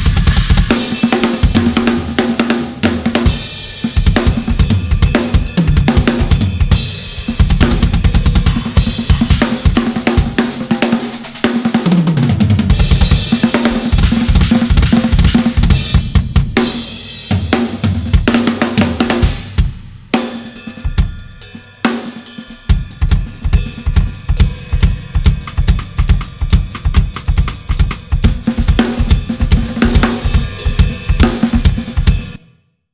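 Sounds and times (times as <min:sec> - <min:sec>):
drum kit beat: 0:00.0 - 0:32.4
tom fill: 0:00.0 - 0:32.4.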